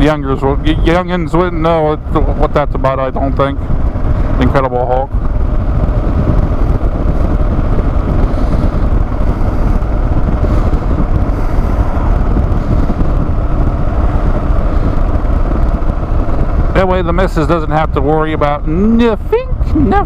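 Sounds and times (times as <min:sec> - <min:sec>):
motorcycle engine drone: 0:00.0 - 0:20.0
wind rushing over microphone: 0:00.0 - 0:20.0.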